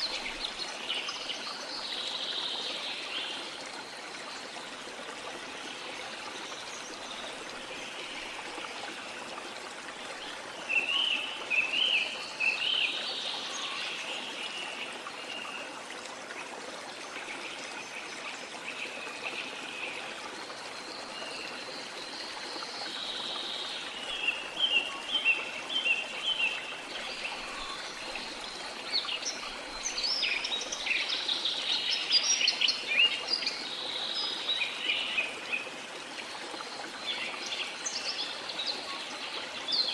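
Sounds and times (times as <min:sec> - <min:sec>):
songbirds chirping: 0:00.0 - 0:39.9
water flowing: 0:00.0 - 0:39.9.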